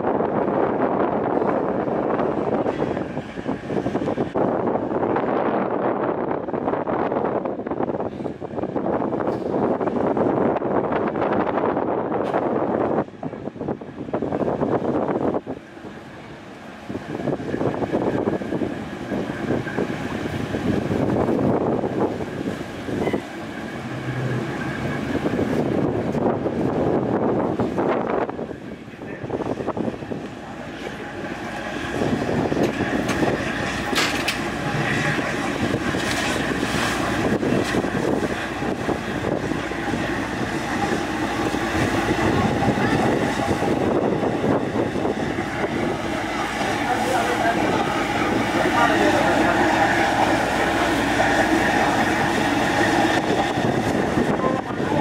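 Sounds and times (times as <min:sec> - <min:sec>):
boat rushing through waves: 0:00.0 - 0:55.0
ferry engines droning: 0:00.0 - 0:55.0
wind buffeting microphone: 0:00.0 - 0:55.0.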